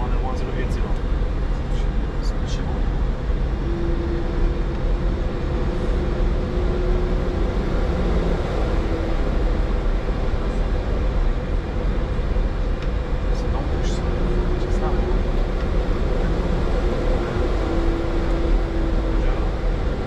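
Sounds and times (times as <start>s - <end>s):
engine and airflow rumble: 0.0s - 20.0s.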